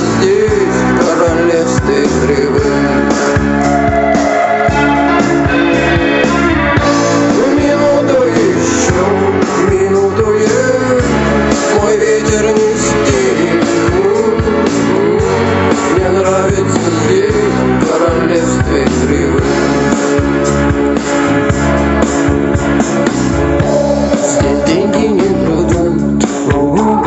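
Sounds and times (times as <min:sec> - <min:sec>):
rock music with guitar: 0:00.0 - 0:27.0.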